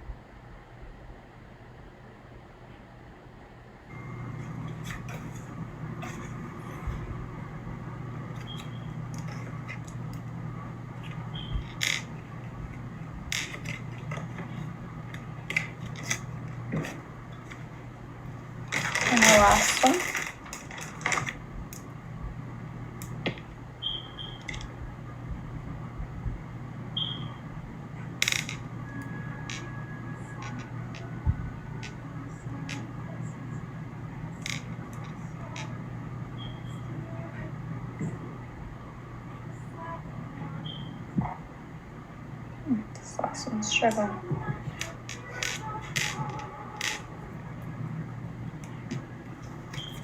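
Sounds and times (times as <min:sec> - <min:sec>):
low machine hum: 0:00.0 - 0:50.0.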